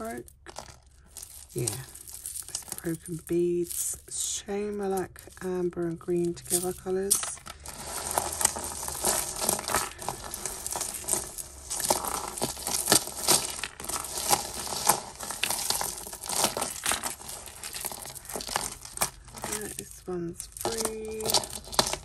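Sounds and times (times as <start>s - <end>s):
crinkling rustles: 0.0s - 22.0s
plastic beads and chains clattering: 0.0s - 22.0s.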